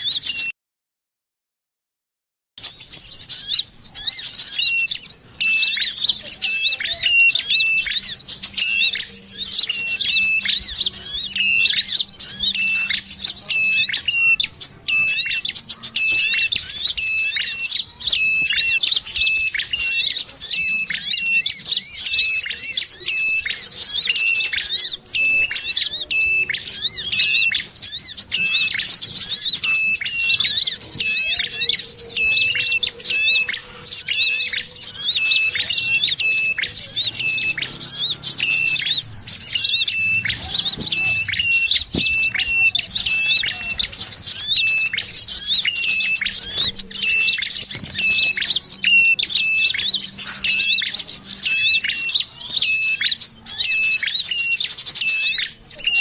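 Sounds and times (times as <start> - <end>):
birds high twittering: 0.0 - 0.5, 2.6 - 56.0.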